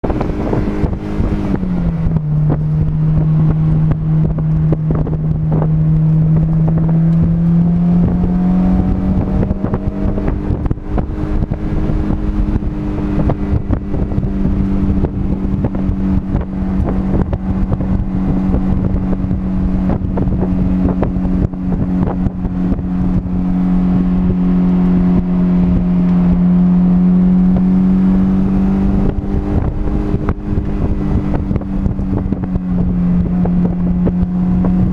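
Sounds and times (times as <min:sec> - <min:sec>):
car engine running: 0:00.0 - 0:34.9
wind buffeting microphone: 0:00.0 - 0:34.9.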